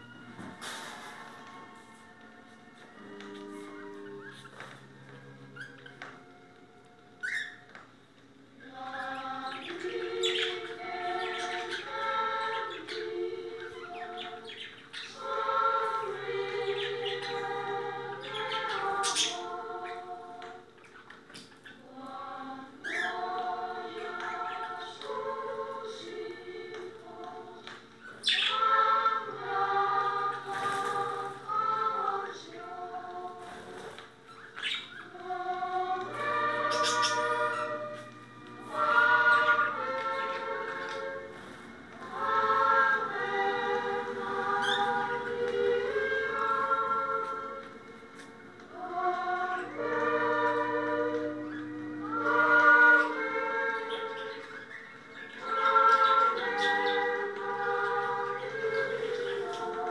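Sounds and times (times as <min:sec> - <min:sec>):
choir singing: 0:00.0 - 0:07.8, 0:08.6 - 0:59.9.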